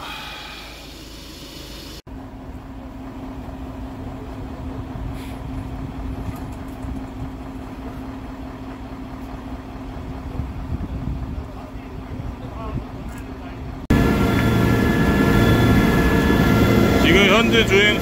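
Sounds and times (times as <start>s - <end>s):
crane engine humming: 0.0s - 18.0s.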